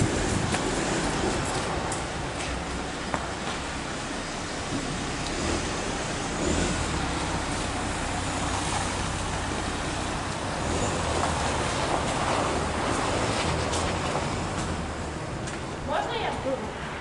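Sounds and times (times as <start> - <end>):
car engine running close by: 0.0 - 15.5
street traffic: 0.0 - 17.0.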